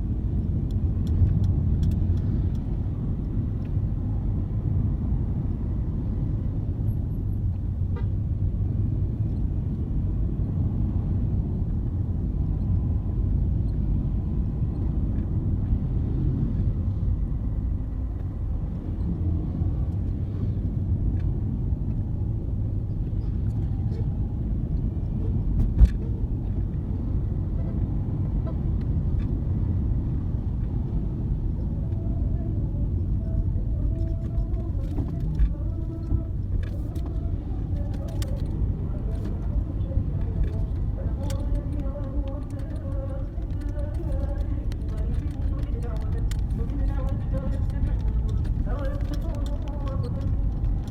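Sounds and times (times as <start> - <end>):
low rumble of road vehicles: 0.0 - 50.9.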